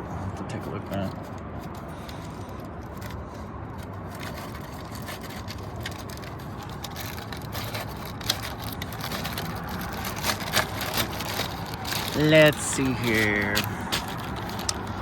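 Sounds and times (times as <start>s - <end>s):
steady background noise: 0.0s - 15.0s
rustling of small parts: 0.9s - 15.0s.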